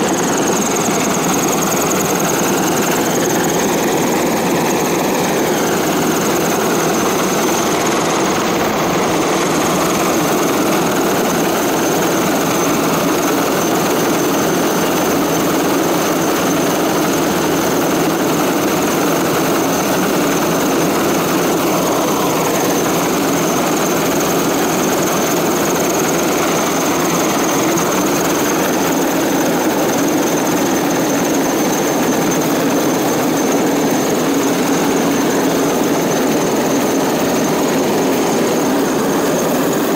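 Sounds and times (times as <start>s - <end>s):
helicopter rotor and turbine: 0.0s - 39.9s
thin high whine: 0.0s - 39.9s.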